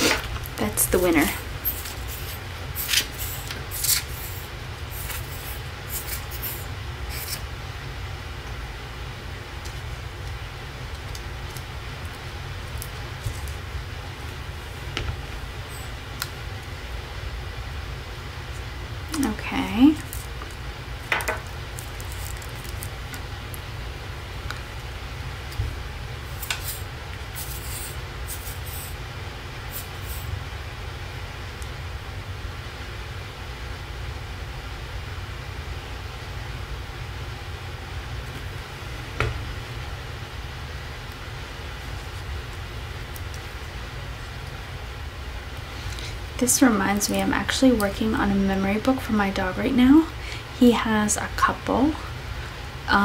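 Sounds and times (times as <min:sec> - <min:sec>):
low background hum: 0:00.0 - 0:53.0.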